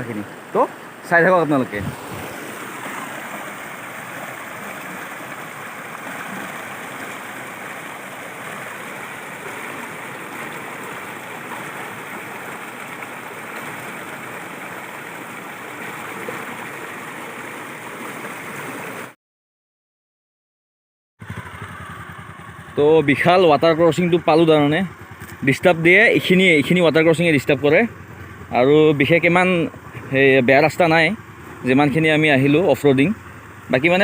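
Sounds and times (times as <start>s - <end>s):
stream water rushing: 0.0s - 19.2s, 21.3s - 34.0s.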